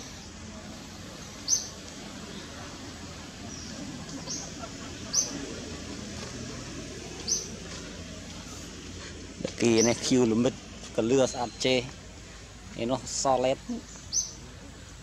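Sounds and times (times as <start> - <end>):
outdoor background hiss: 0.0 - 15.0
bird chirping: 1.2 - 6.1, 6.7 - 8.6, 9.4 - 15.0.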